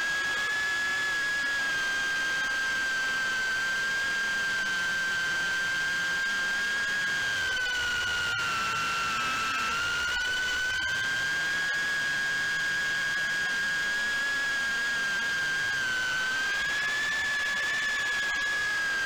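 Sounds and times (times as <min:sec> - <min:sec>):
drone motors whining: 0:00.2 - 0:19.0.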